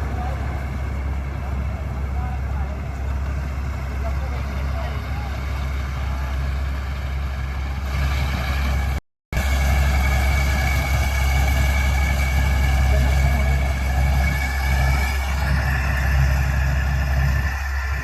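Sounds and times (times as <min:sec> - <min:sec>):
high even whine: 0:00.0 - 0:18.0
low engine drone: 0:00.0 - 0:18.0.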